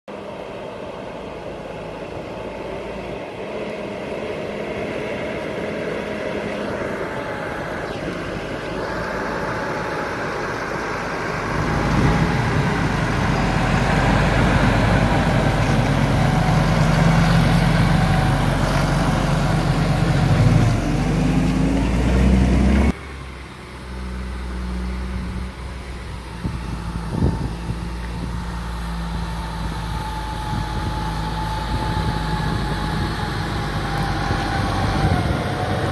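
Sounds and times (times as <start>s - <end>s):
tractor diesel engine running: 0.1s - 35.9s
tyre and road noise: 0.1s - 35.9s.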